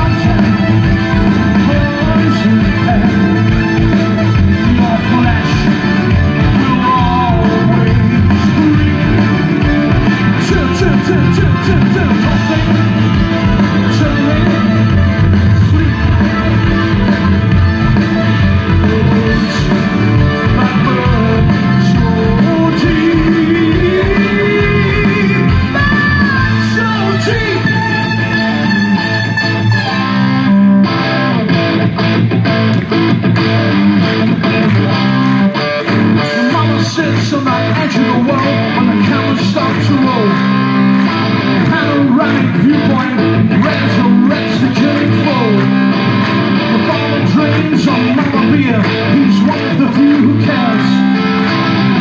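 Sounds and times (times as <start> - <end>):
person singing: 0.0 - 29.6, 36.2 - 40.5, 41.6 - 52.0
keyboards: 0.0 - 31.8, 32.5 - 52.0
bass guitar: 0.0 - 52.0
drums: 0.0 - 52.0
electric guitars: 0.0 - 52.0.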